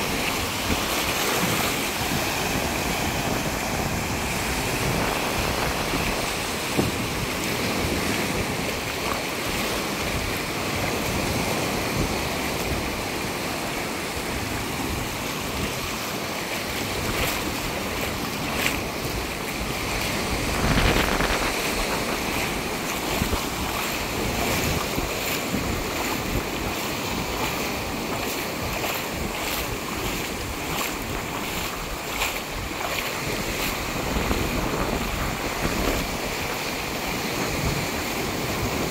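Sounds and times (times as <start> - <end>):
surf washing over sand: 0.0 - 38.9
wind on microphone: 0.0 - 38.9.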